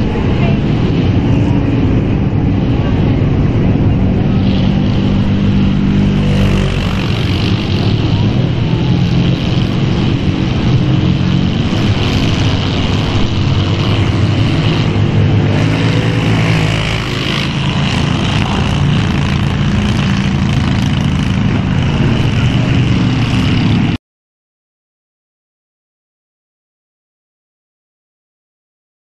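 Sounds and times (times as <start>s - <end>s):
truck engine under load: 0.0s - 24.0s.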